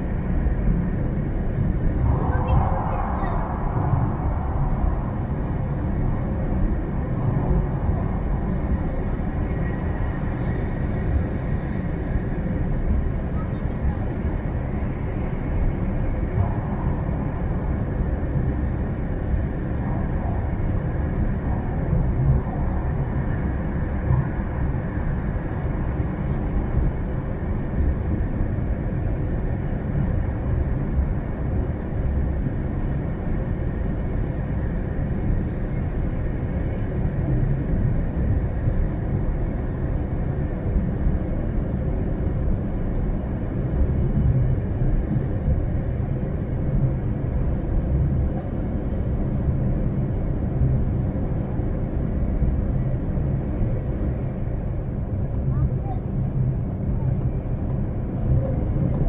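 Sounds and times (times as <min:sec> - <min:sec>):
train running at speed: 0:00.0 - 0:59.0.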